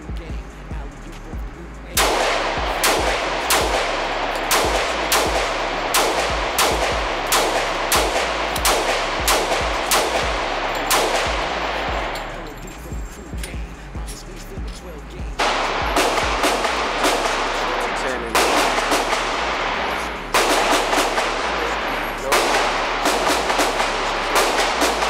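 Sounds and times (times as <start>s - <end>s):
pistol shots echoing indoors: 1.9s - 13.7s, 15.2s - 25.0s.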